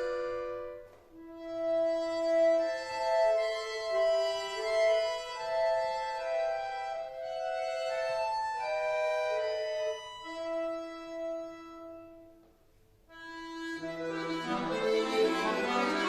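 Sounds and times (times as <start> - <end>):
button accordion folk melody: 0.0 - 16.0.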